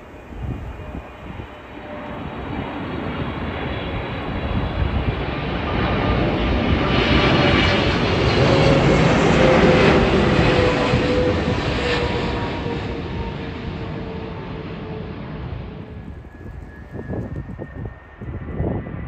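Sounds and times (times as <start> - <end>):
jet engines rumbling overhead: 0.0 - 19.0.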